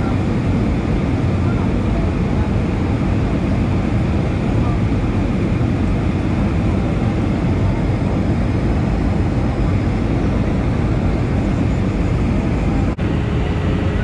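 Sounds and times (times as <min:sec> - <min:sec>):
jet airliner cabin rumble: 0:00.0 - 0:14.0.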